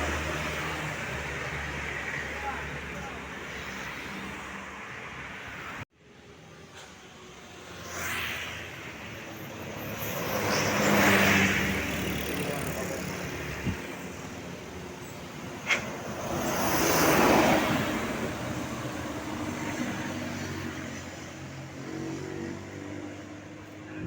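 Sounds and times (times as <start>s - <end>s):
steady traffic engines: 0.0s - 24.0s.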